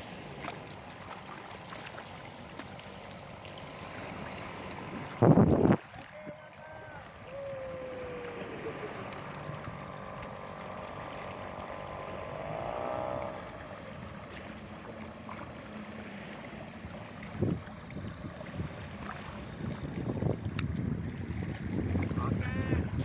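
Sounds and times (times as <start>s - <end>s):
outboard motor whining: 0.0s - 23.0s
wind and water wash: 0.0s - 23.0s.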